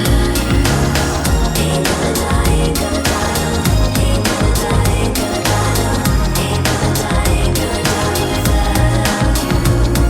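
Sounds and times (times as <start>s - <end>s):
fast electronic music: 0.0s - 10.0s.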